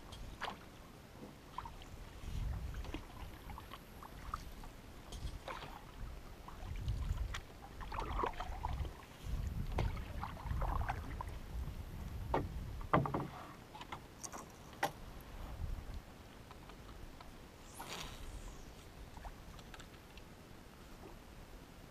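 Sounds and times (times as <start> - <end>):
paddle strokes through water: 0.1 - 15.7, 16.5 - 20.2.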